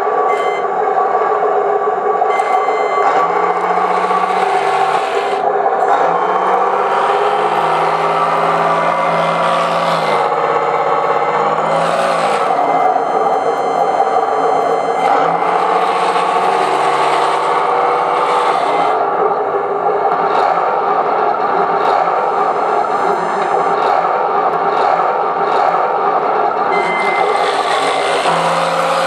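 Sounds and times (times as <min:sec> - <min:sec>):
simulated tank engine from speaker: 0:00.0 - 0:29.0.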